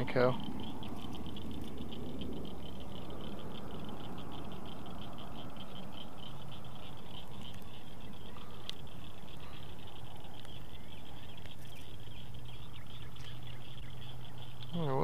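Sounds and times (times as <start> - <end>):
low rumble: 0.0 - 14.7
high-pitched animal chorus: 0.0 - 15.0
faint clicks: 0.4 - 13.4, 14.4 - 14.8.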